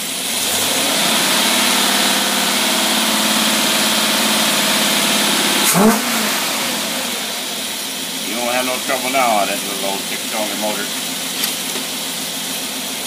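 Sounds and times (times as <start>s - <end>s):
engine running above idle: 0.0s - 13.0s.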